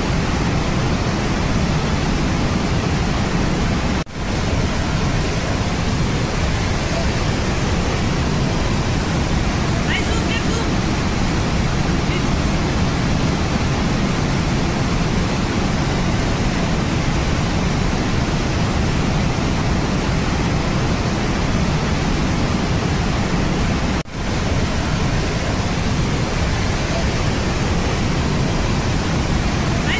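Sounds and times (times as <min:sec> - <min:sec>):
stream rushing water roar: 0:00.0 - 0:29.9.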